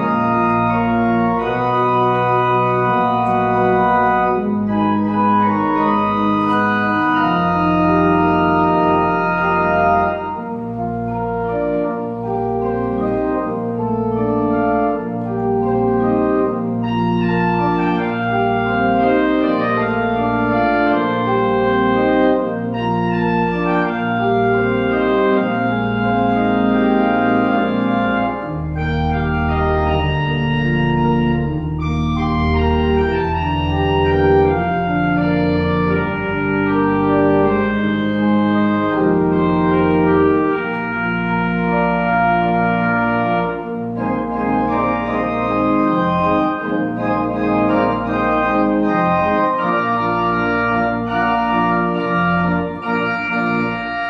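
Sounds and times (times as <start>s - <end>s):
deep bass organ notes: 0.0s - 54.0s
pipe organ chords: 0.0s - 54.0s.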